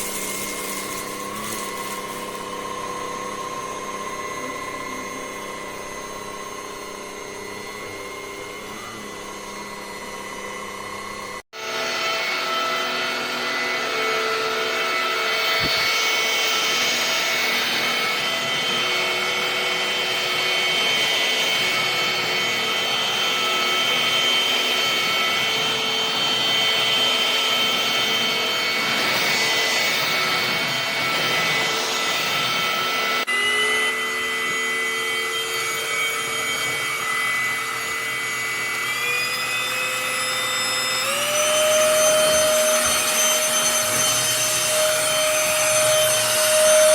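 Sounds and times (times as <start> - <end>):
stick vacuum motor whine: 0.0 - 46.9.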